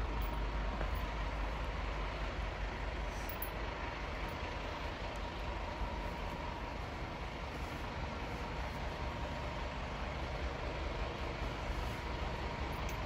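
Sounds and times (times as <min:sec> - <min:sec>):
diesel engine idling: 0:00.0 - 0:13.0
faint steady whine: 0:00.0 - 0:13.0.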